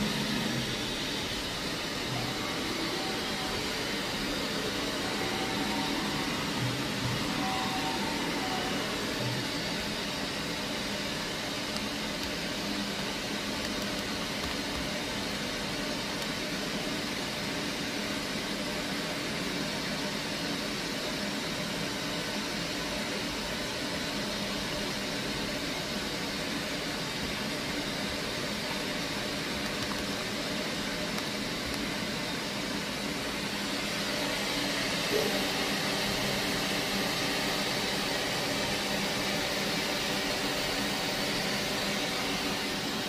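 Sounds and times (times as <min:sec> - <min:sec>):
machining center whirring hum: 0:00.0 - 0:43.0.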